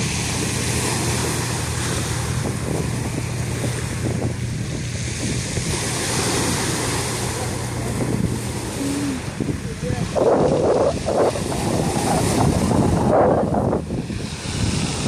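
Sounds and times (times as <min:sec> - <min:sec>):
waves washing up pebble shore: 0:00.0 - 0:15.0
wind on microphone: 0:00.0 - 0:15.0.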